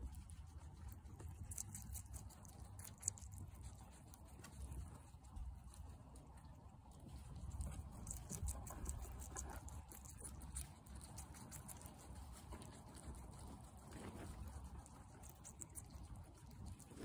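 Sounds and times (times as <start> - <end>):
guinea pig chewing: 0.0 - 17.0
low steady rumble: 0.0 - 17.0.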